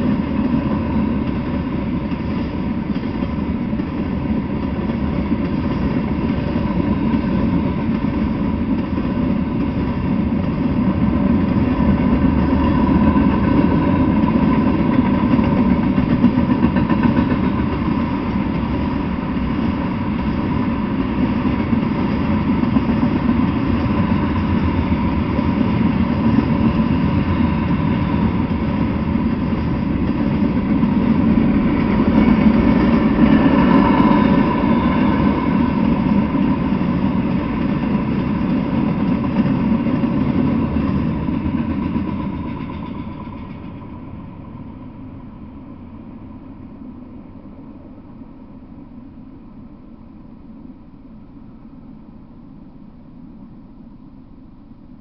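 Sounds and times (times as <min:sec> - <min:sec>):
freight train wheels clattering on rails: 0:00.0 - 0:47.4.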